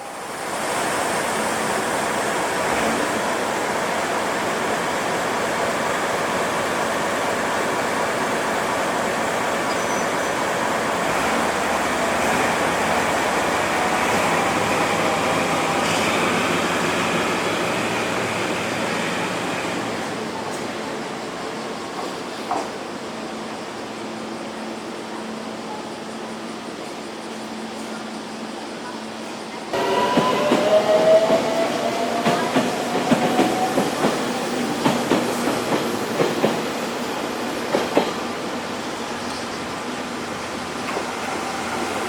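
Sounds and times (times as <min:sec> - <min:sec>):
train wheels on rails: 0:00.0 - 0:23.6, 0:25.9 - 0:42.0.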